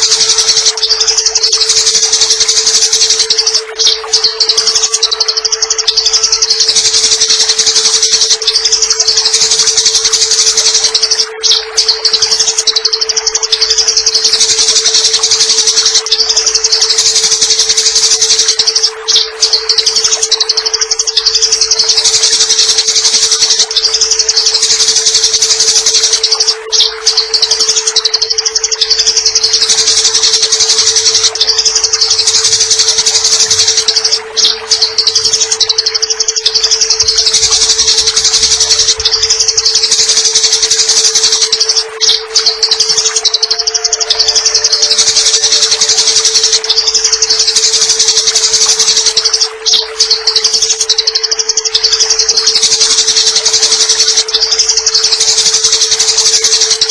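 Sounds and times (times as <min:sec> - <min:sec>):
constant tone: 0:00.0 - 0:56.9
running water: 0:00.0 - 0:56.9
sparrows chirping: 0:00.0 - 0:56.9.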